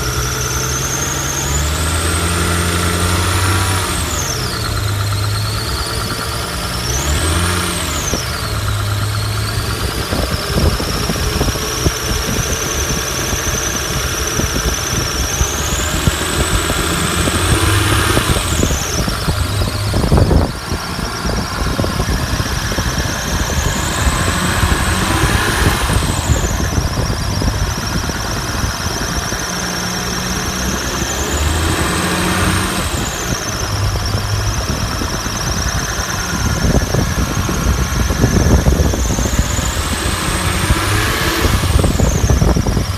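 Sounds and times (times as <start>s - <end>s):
car engine revving: 0.0s - 42.9s
high-pitched engine squeal: 0.0s - 42.9s.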